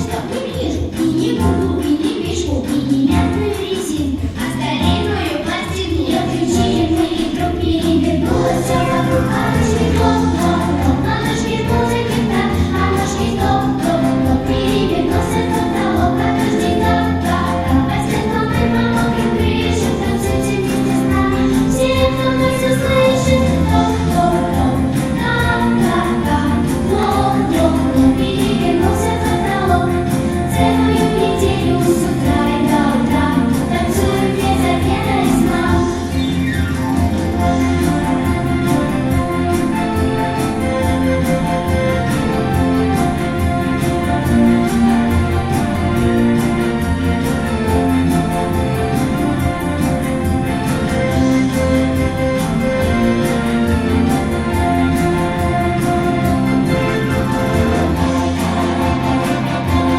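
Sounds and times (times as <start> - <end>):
group singing with instruments: 3.0 - 59.9.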